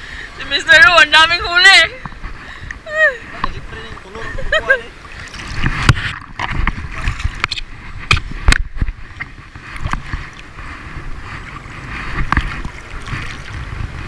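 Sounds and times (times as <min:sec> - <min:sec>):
person wading through seawater: 0:00.0 - 0:14.0.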